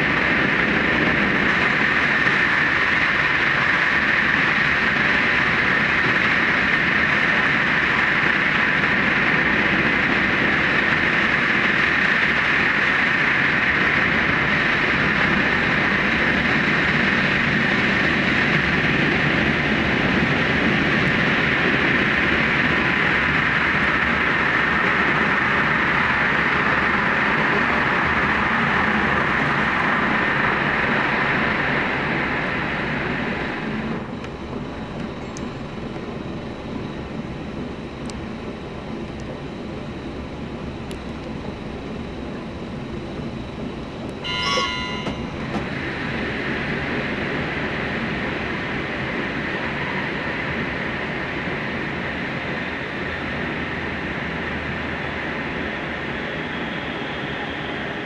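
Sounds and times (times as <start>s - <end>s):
train rushing rumble: 0.0s - 58.0s.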